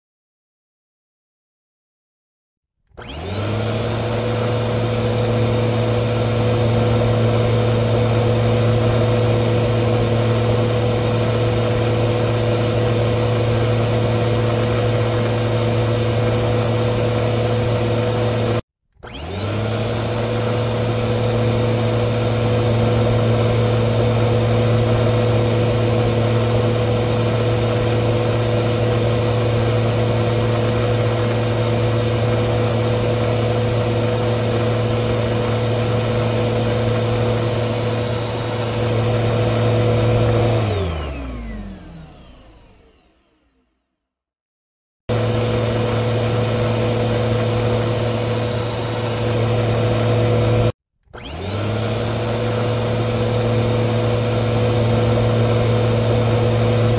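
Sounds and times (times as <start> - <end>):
vacuum cleaner running: 2.9 - 43.8, 45.1 - 56.9.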